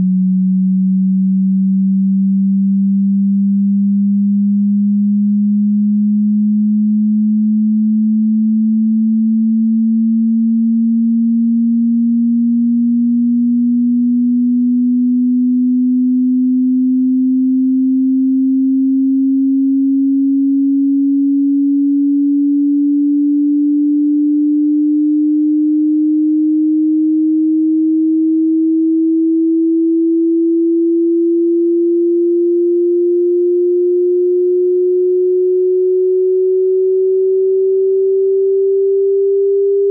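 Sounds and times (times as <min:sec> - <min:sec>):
low sine tone sweeping upward: 0:00.0 - 0:39.9.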